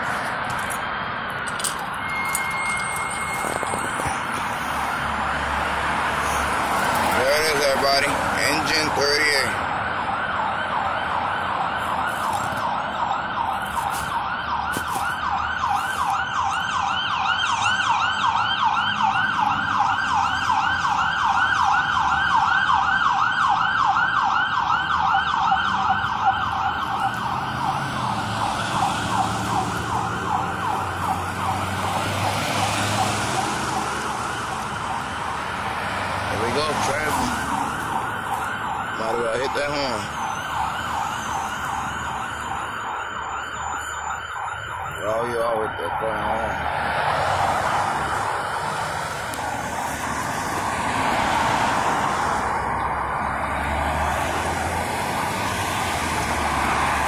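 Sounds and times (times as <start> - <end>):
fire engine siren yelping: 0.0 - 57.0
road traffic noise: 0.0 - 57.0.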